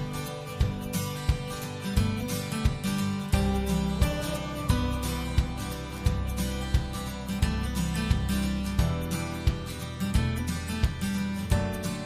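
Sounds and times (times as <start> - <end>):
background music with guitar and beat: 0.0 - 12.0.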